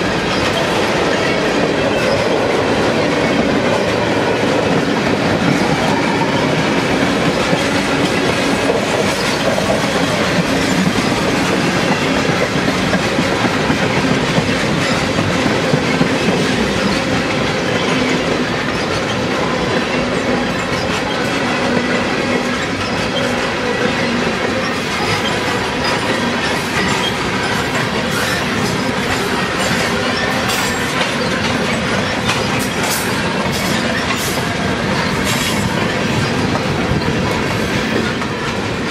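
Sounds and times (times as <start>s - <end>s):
clickety-clack over rail joints: 0.0s - 38.9s
steel wheels rumbling on rails: 0.0s - 38.9s.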